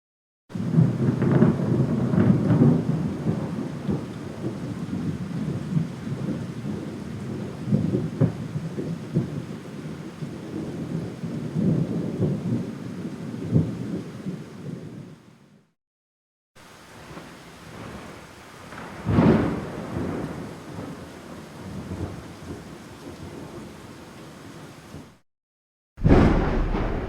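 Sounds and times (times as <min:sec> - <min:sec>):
thunder rumbling with cracks: 0:00.6 - 0:15.0, 0:17.1 - 0:23.6, 0:26.0 - 0:27.0.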